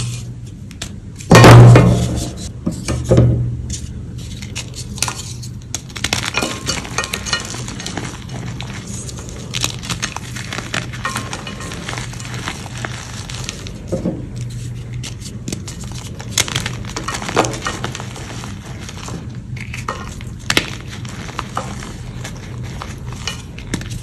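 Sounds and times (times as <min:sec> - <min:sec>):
chalk block cracking: 0:04.3 - 0:24.0.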